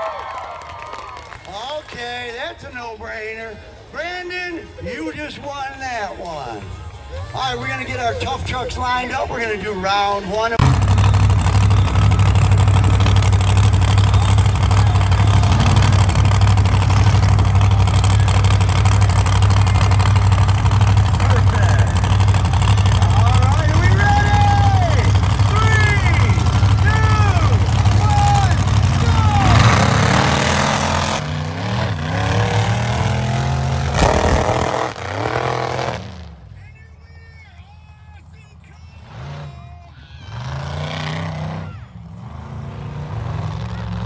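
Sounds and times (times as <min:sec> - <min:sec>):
truck engines idling: 0:00.0 - 0:44.0.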